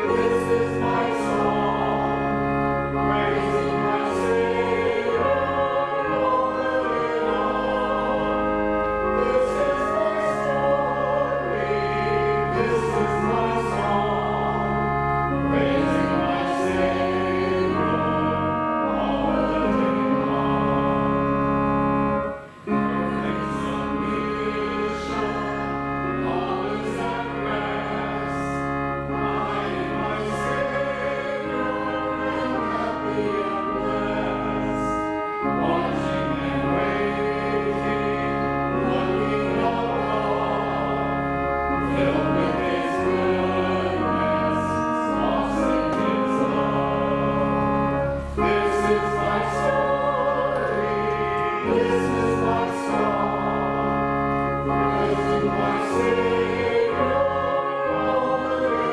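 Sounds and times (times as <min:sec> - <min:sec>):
choir singing a hymn: 0:00.0 - 0:58.9
instrumental accompaniment: 0:00.0 - 0:58.9.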